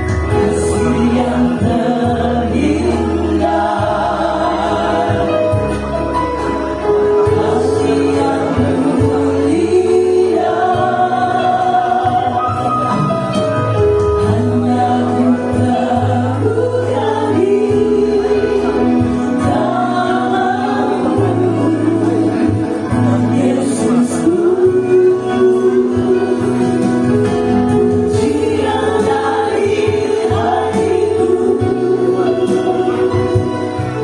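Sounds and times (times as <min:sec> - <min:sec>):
mixed choir singing: 0:00.0 - 0:34.0.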